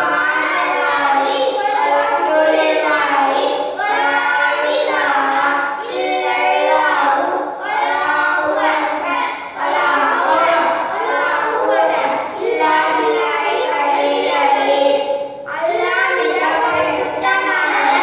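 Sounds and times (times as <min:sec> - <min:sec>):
boys singing together: 0:00.0 - 0:18.0.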